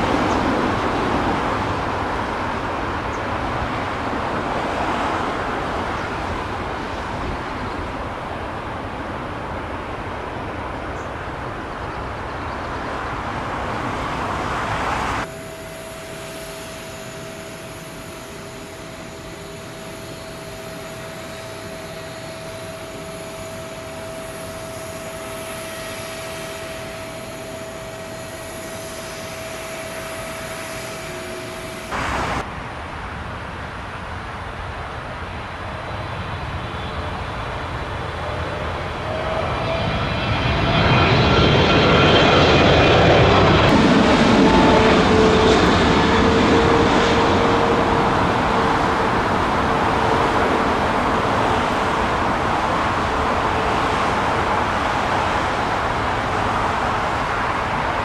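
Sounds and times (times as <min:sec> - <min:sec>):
engine whine: 0:00.0 - 0:58.0
jet engines roaring: 0:00.0 - 0:58.0.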